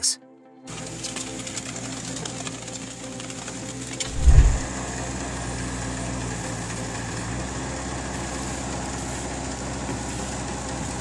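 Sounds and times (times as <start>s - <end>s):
small engine running: 0.7s - 11.0s.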